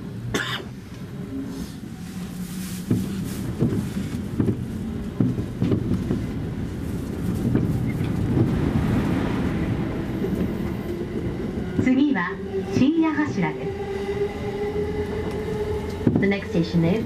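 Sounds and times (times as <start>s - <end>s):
train wheels and motors rumbling: 0.0s - 17.0s.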